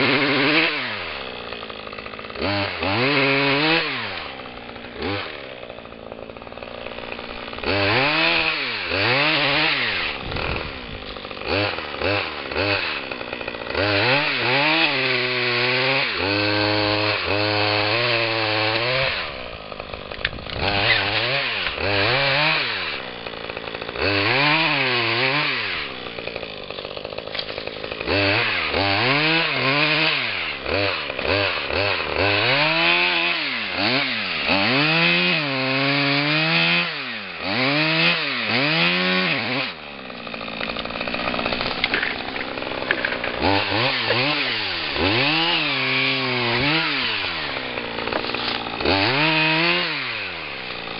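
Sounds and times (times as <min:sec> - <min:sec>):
chainsaw revving: 0:00.0 - 0:50.9.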